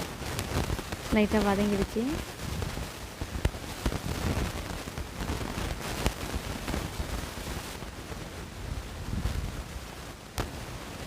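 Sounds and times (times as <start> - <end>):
onion and tomato sizzling in oil: 0.0 - 11.0.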